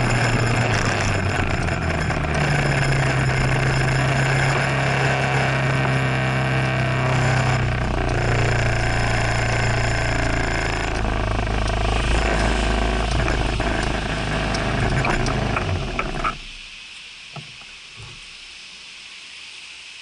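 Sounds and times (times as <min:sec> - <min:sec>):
scooter engine running: 0:00.0 - 0:16.6.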